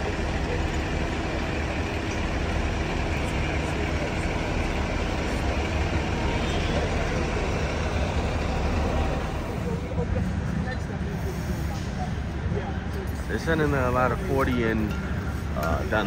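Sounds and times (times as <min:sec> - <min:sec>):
street noise: 0:00.0 - 0:16.0
vehicle engines idling: 0:00.0 - 0:16.0.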